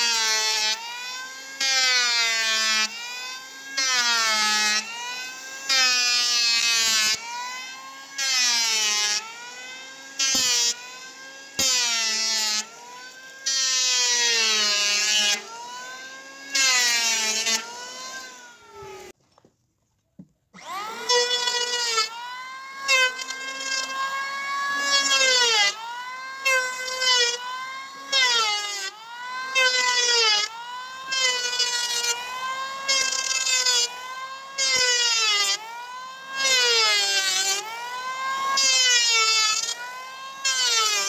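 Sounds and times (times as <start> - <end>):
electric planer motor whine: 0.0 - 19.4, 20.6 - 41.0.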